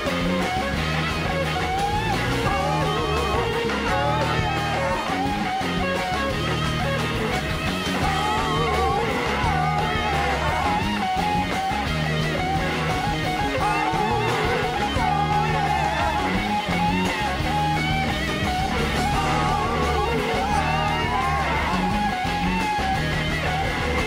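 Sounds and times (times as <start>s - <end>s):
bass guitar: 0.0s - 24.0s
drums: 0.0s - 24.0s
electric guitar bending notes: 0.0s - 24.0s.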